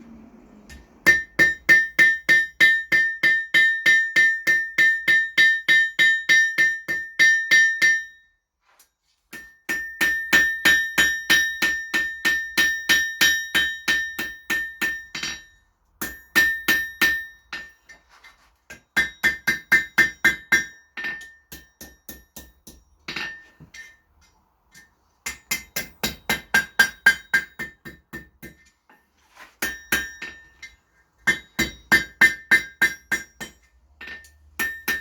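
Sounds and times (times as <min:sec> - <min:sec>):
hammer striking steel on anvil: 0:00.7 - 0:08.3, 0:09.3 - 0:17.9, 0:18.7 - 0:28.8, 0:29.6 - 0:35.0.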